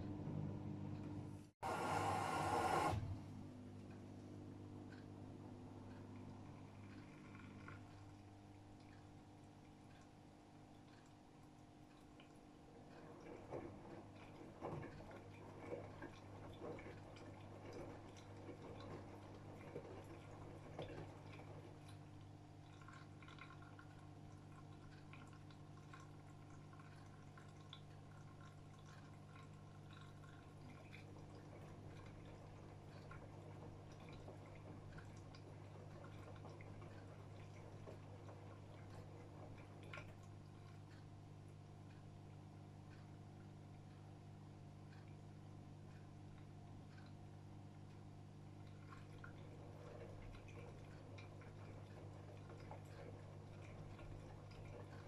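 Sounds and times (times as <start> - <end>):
water splashing in washing machine: 0.0 - 42.3, 45.9 - 55.0.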